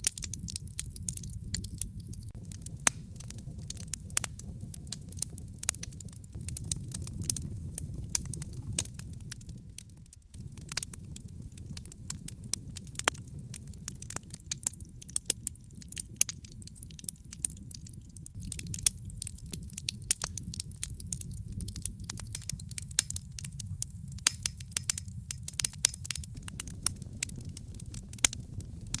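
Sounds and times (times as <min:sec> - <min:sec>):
low rumble of burning: 0:00.0 - 0:29.0
wood fire crackling: 0:00.0 - 0:29.0.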